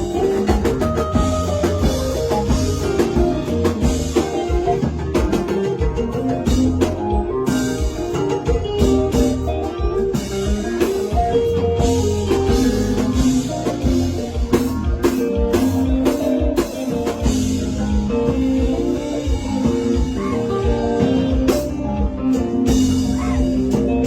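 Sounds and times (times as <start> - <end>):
drum kit beat: 0.0 - 24.0
guitar solo: 0.0 - 24.0.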